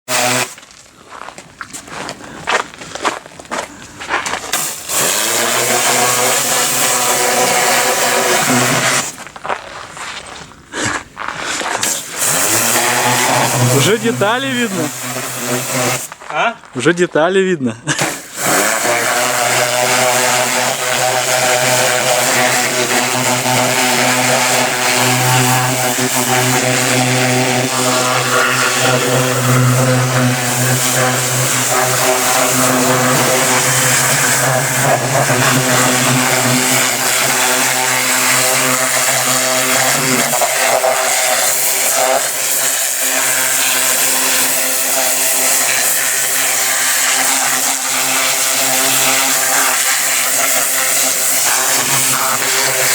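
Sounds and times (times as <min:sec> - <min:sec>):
pressure washer pump humming: 0:00.0 - 0:00.6, 0:04.5 - 0:09.2, 0:11.8 - 0:16.2, 0:18.0 - 0:52.9
water jet hissing: 0:00.0 - 0:00.6, 0:04.5 - 0:09.2, 0:11.8 - 0:16.2, 0:18.0 - 0:52.9.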